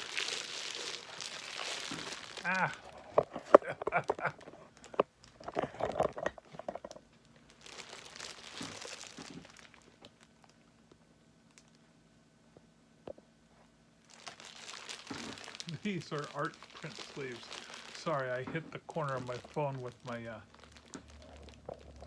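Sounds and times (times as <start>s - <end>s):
plastic packaging crinkling: 0.0s - 11.8s, 14.0s - 22.0s.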